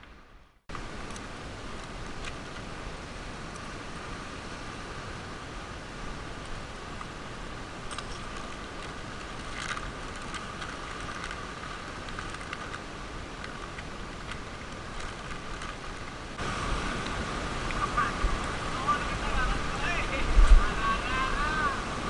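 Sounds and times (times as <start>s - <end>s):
sea and wind rushing: 0.0s - 22.0s.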